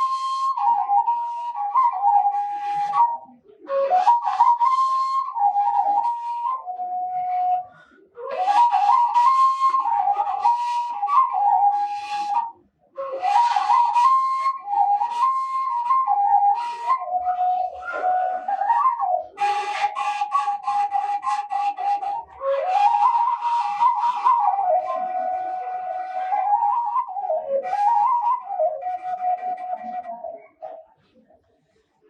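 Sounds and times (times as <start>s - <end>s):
breathy bamboo flute melody: 0.0s - 31.3s.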